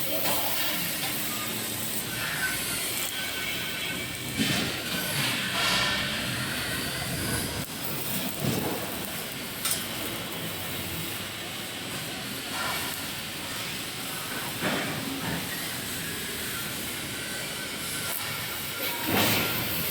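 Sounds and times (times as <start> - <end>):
hissing factory noise: 0.0 - 19.9.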